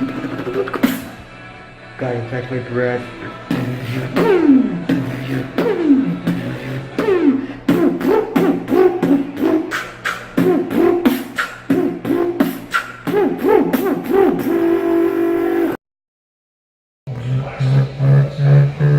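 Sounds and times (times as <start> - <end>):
beatboxing: 0.0 - 1.2, 3.4 - 15.8, 17.1 - 18.9.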